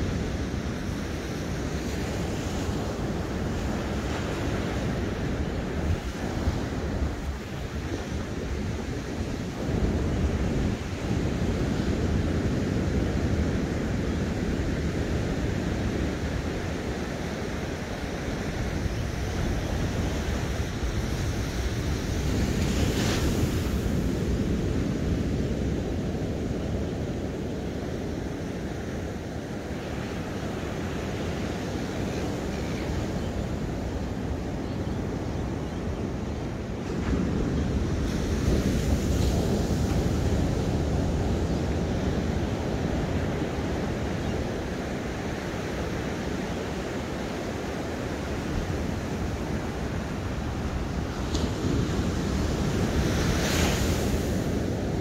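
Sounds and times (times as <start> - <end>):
ocean surf on a beach: 0.0 - 55.0
wind rumbling on microphone: 0.0 - 55.0.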